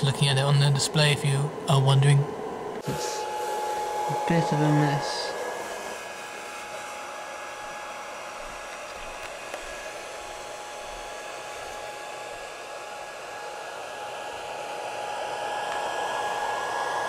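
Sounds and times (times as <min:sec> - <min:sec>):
cooling fan whirring: 0:00.0 - 0:17.0.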